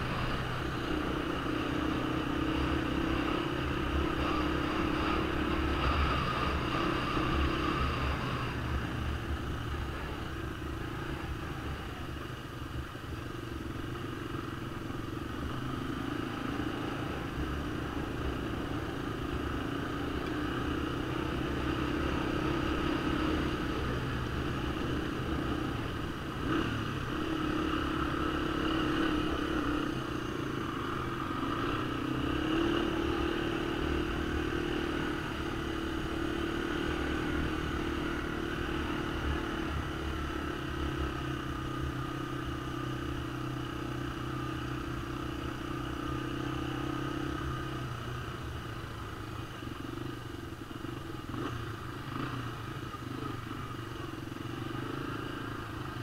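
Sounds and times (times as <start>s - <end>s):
three-wheeler engine revving: 0.0s - 12.2s, 13.6s - 56.0s.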